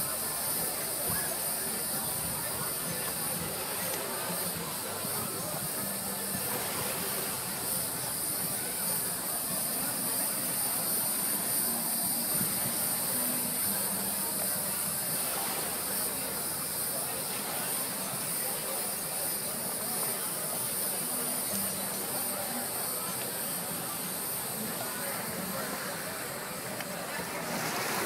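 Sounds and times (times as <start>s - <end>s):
faint distant crowd voices: 0.0s - 28.0s
steady background hiss: 0.0s - 28.0s.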